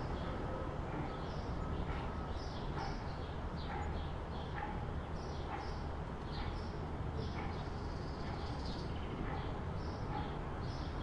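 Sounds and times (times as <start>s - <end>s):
distant traffic rumble: 0.0s - 11.0s
small birds chirping: 0.0s - 11.0s.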